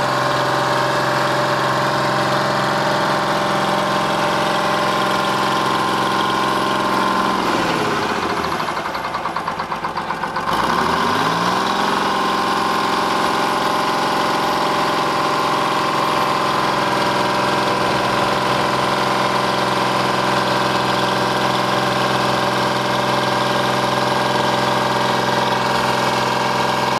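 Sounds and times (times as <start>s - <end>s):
bulldozer diesel engine running: 0.0s - 26.9s.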